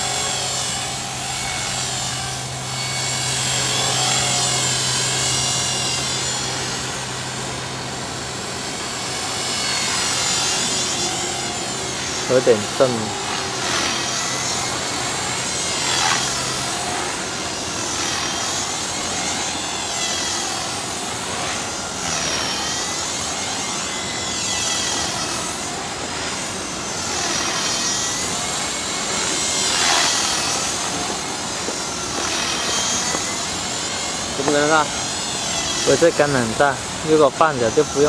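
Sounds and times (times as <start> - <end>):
motor high whine: 0.0 - 38.0
rc helicopter rotor whirring: 0.0 - 38.0.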